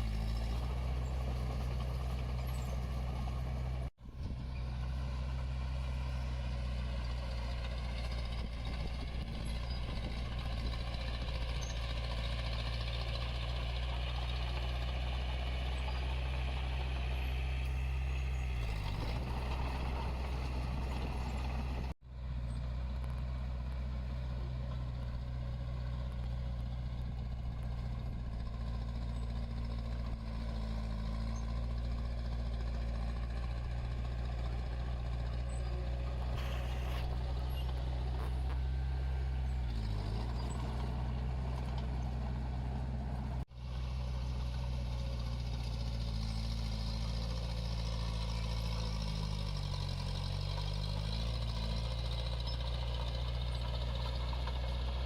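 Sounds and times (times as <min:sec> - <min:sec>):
heavy machinery diesel engine running: 0:00.0 - 0:55.0.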